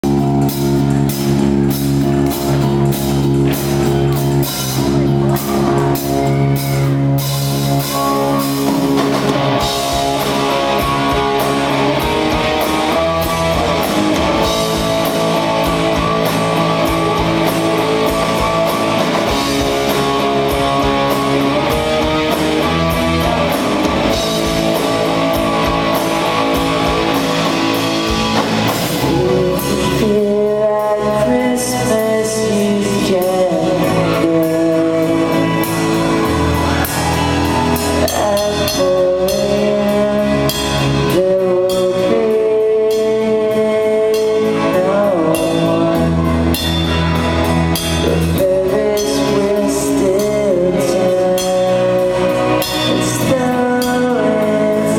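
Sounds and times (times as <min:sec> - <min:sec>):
drum kit beat: 0:00.0 - 0:54.9
electric guitar chords: 0:00.0 - 0:54.9.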